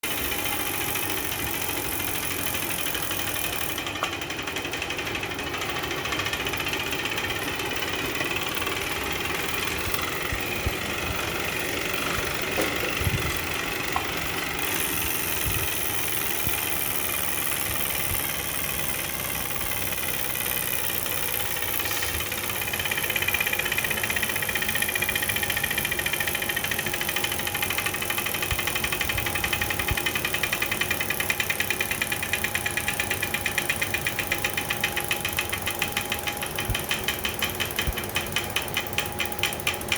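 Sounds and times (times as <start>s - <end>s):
bike trainer abnormal mechanical noise: 0.0s - 39.9s.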